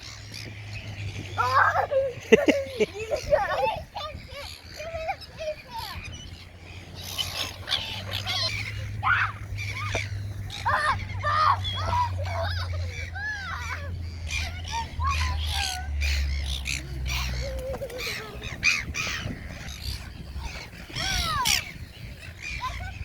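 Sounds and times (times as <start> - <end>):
flock of birds calling: 0.0 - 23.0.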